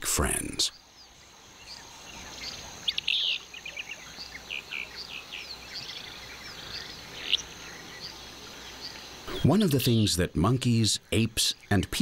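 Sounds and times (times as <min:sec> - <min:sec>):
high insect drone: 0:00.1 - 0:12.0
bird chirps and calls: 0:00.4 - 0:12.0.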